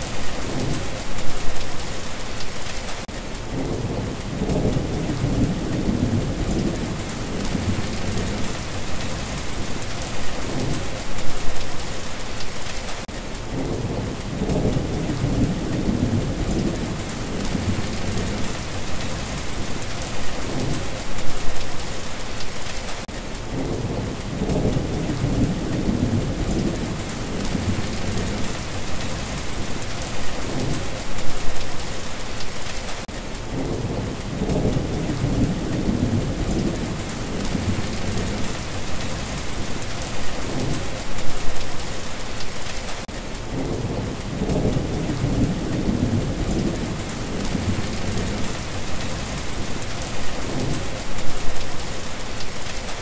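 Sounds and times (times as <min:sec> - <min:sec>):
thunder rumbling: 0:00.0 - 0:01.6, 0:03.5 - 0:11.6, 0:13.5 - 0:21.6, 0:23.5 - 0:31.6, 0:33.5 - 0:41.6, 0:43.5 - 0:52.0
heavy rain hissing: 0:00.0 - 0:53.0.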